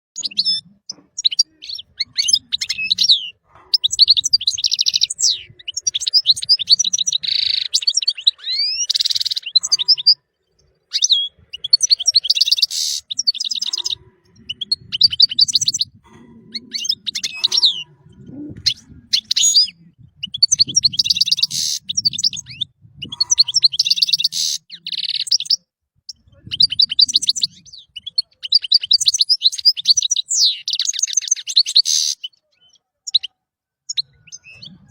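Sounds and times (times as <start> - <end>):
bird singing twittering trills: 0.2 - 34.9.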